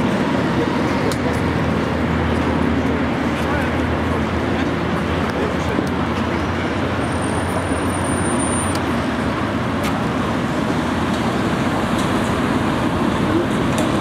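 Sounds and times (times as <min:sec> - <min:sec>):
road noise: 0:00.0 - 0:14.0
vehicle engines running: 0:00.0 - 0:14.0.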